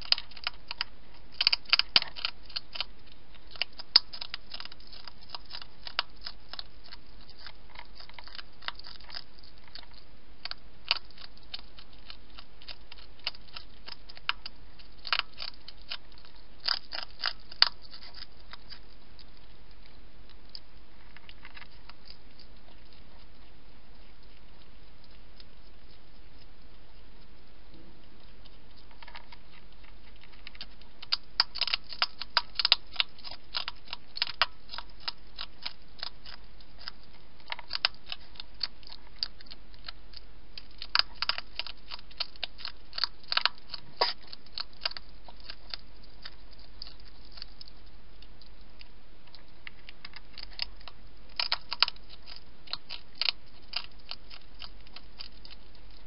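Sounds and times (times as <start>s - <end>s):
hedgehog crunching food: 0.0s - 56.0s.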